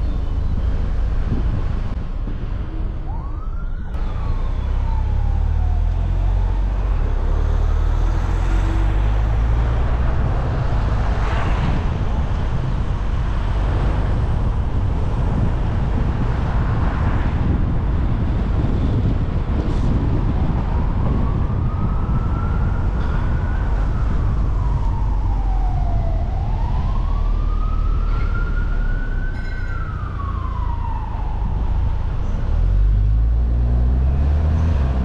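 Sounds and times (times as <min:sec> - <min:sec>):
car driving rumble: 0:00.0 - 0:35.0
emergency siren wail: 0:02.7 - 0:17.6, 0:18.3 - 0:33.3.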